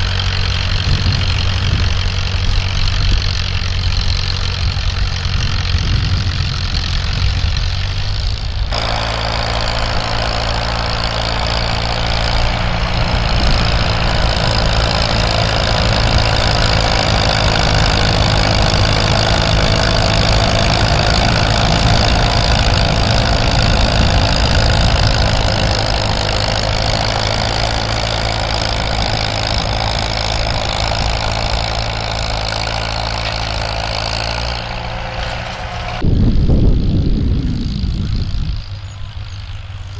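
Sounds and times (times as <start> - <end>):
noisy mechanical sound: 0.0 - 39.9
tractor engine running: 0.0 - 39.9.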